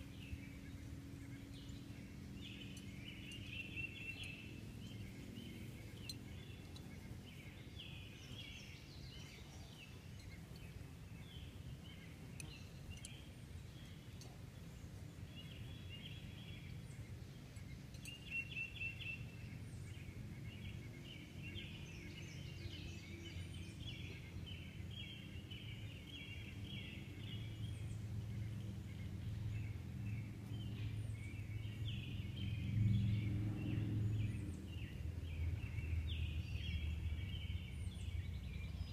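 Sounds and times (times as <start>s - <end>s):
birds chirping and trilling: 0.0s - 38.9s
low steady rumble: 0.0s - 38.9s.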